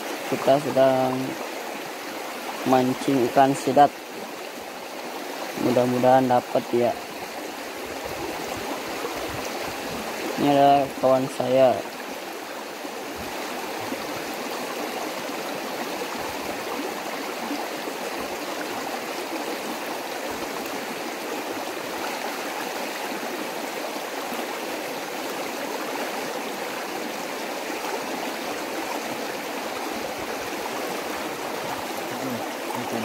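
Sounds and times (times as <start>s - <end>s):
stream flowing over stones: 0.0s - 33.0s.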